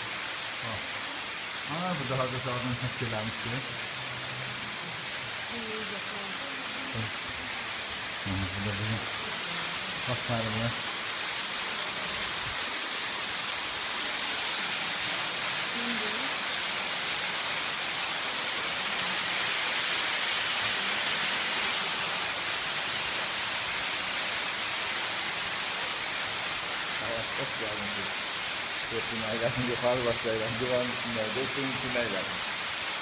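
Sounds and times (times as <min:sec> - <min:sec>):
water rushing in cave stream: 0:00.0 - 0:33.0.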